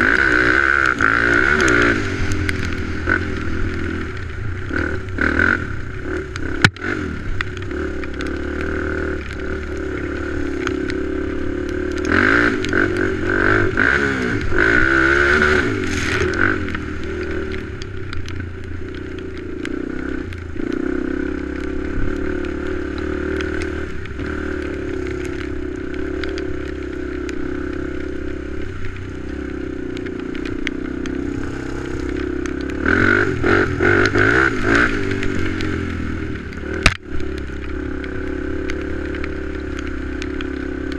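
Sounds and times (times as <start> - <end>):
atv engine revving: 0.0 - 40.9.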